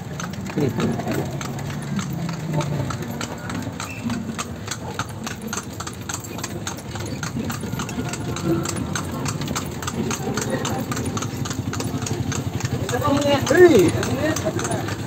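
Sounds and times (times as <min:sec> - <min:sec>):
hooves clip-clopping on pavement: 0:00.0 - 0:15.0.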